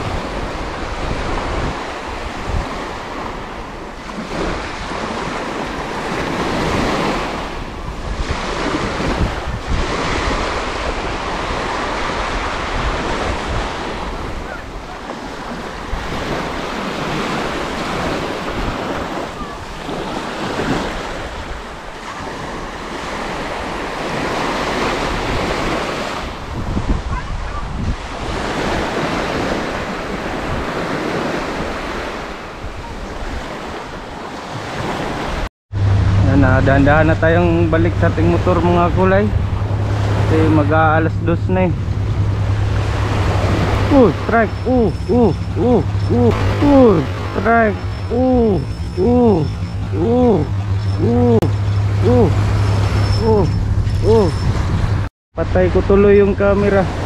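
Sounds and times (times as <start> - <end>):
small waves breaking on sand: 0.0 - 54.7
wind rumbling on microphone: 0.0 - 57.0.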